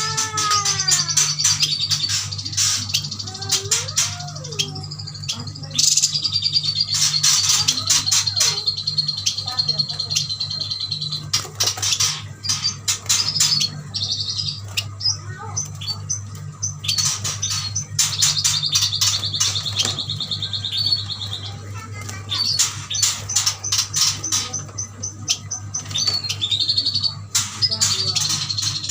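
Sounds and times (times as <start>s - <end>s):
birds chirping short calls: 0.0s - 28.9s
rapid rattling bird trill: 0.0s - 28.9s.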